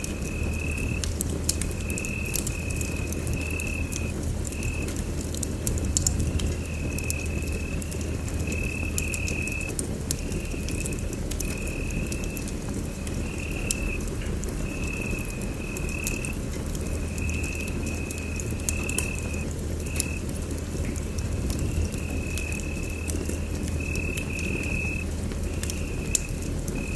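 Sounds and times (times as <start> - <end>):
low steady rumble: 0.0 - 26.9
wood fire crackling: 0.0 - 26.9.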